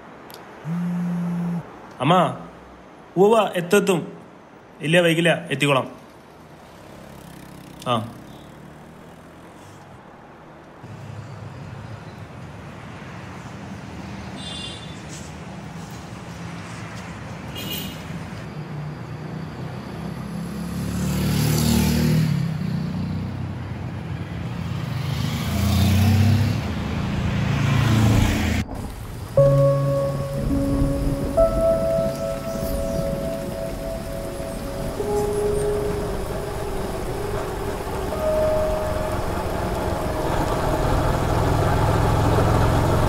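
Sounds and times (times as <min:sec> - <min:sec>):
vehicles passing close by: 0:00.0 - 0:04.9, 0:05.6 - 0:43.0
road traffic hum: 0:00.0 - 0:43.0.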